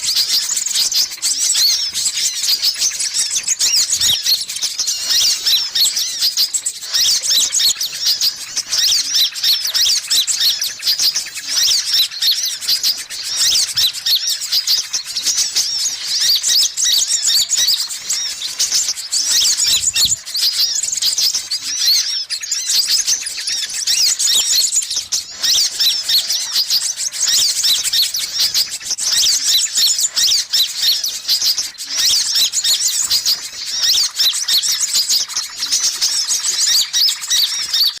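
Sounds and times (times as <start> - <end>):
high-pitched bird chirps and trills: 0.0 - 38.0.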